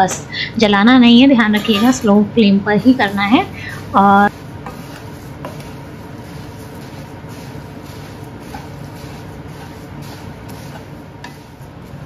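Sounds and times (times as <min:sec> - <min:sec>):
steady low hum: 0:00.0 - 0:12.0
rice being stirred in a pan: 0:01.5 - 0:02.1, 0:02.8 - 0:12.0.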